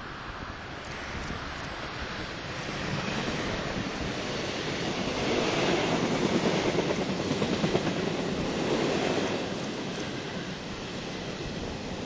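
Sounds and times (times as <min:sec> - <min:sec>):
train wheels on rails: 0:00.5 - 0:12.0.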